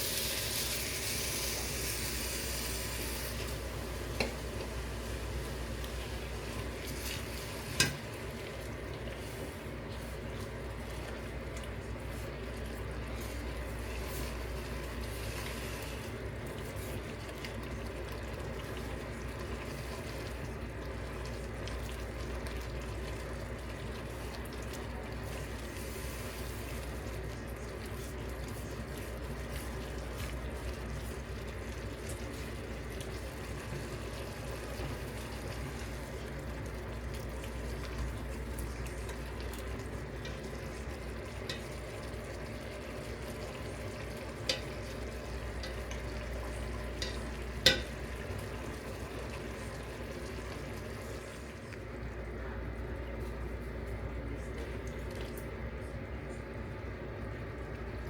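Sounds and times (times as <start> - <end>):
food sizzling in a pan: 0.0 - 51.6.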